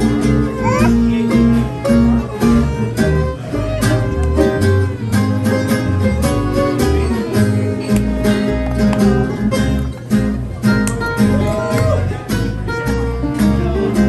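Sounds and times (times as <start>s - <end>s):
acoustic guitars strumming: 0.0s - 14.0s
fiddle: 0.0s - 14.0s
upright bass: 0.0s - 14.0s.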